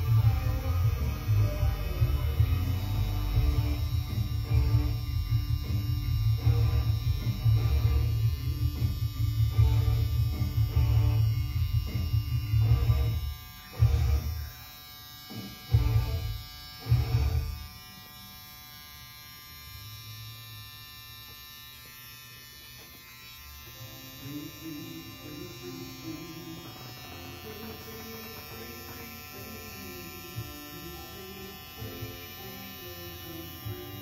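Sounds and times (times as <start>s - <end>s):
faint music: 0.0s - 18.3s, 22.8s - 34.0s
tattoo machine buzzing: 0.0s - 34.0s.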